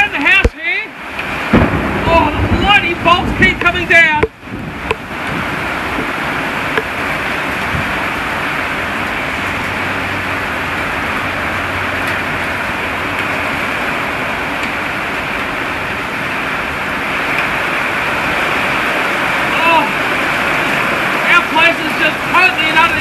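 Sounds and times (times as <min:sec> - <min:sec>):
gusting wind: 0:00.0 - 0:23.0
torrential rain: 0:00.0 - 0:23.0.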